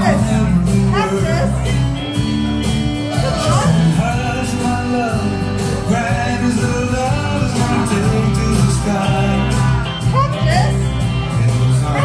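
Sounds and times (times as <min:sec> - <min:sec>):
country song with singing and guitar: 0:00.0 - 0:12.0.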